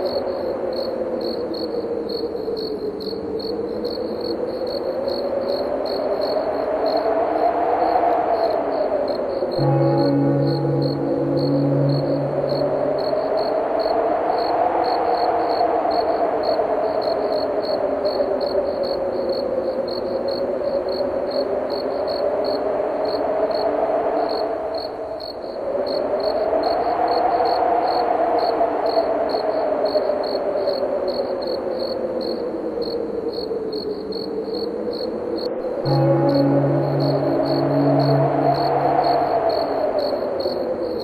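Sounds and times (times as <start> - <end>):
crickets chirping: 0.0 - 41.0
wind howling: 0.0 - 41.0.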